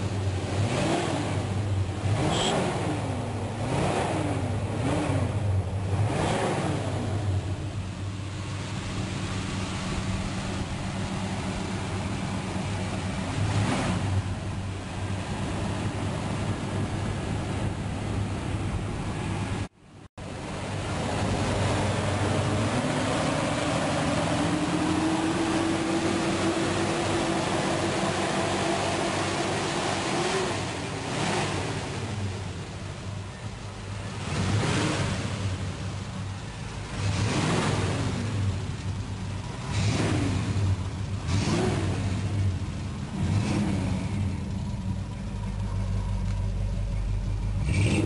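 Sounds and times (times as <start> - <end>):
car engine running: 0.0 - 48.0.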